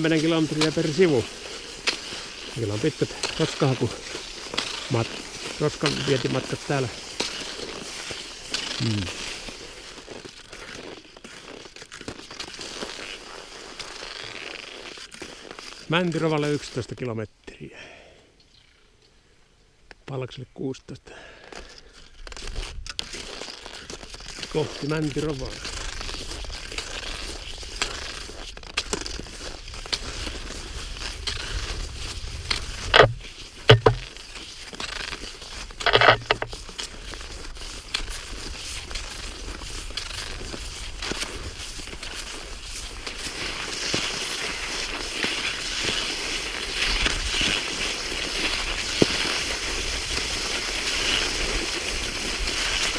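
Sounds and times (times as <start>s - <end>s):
ski poles crunching in snow: 0.0s - 17.3s, 21.2s - 52.9s
skis sliding on packed snow: 0.0s - 17.3s, 21.2s - 52.9s.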